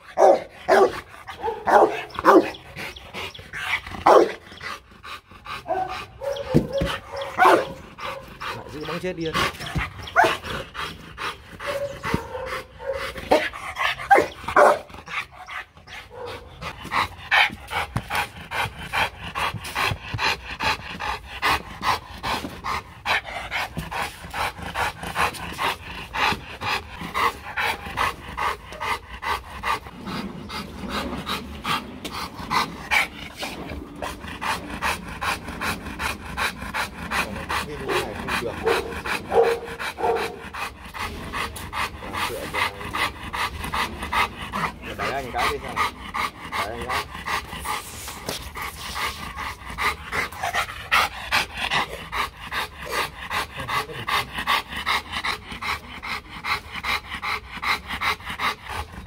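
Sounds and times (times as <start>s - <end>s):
dog panting: 0.0s - 59.0s.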